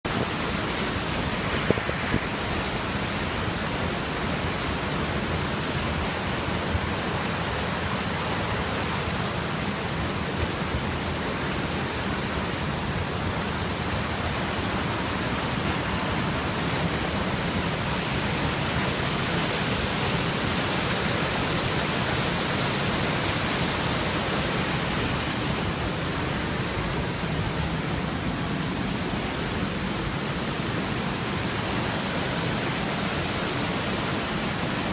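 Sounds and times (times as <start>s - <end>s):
water rushing over weir: 0.0s - 34.9s.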